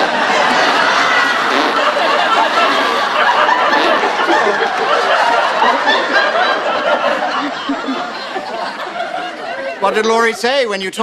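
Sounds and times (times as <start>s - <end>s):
studio audience laughing: 0.0s - 10.7s.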